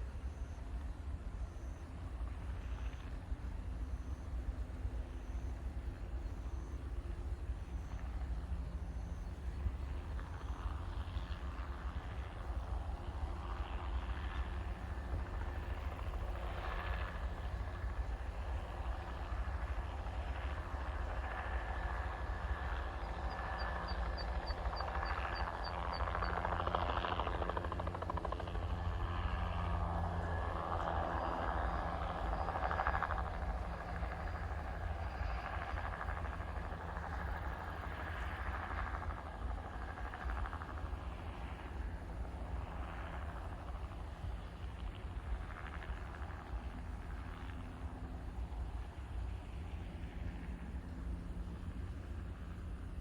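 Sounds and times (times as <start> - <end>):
helicopter engine noise: 0.0 - 53.0
helicopter rotor beating: 9.3 - 53.0.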